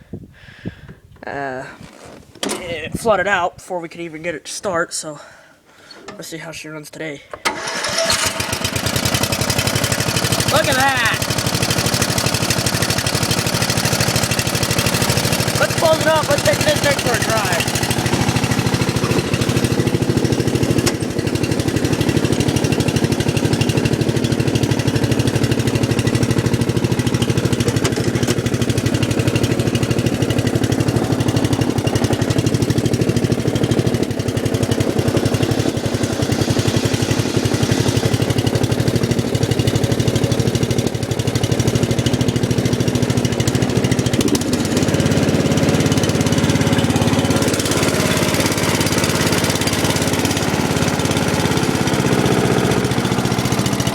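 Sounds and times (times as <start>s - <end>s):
lawn mower engine running: 7.4s - 53.9s.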